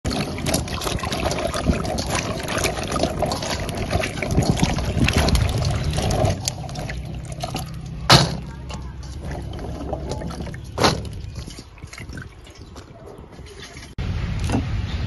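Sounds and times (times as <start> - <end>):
water sloshing and splashing: 0.0 - 14.7.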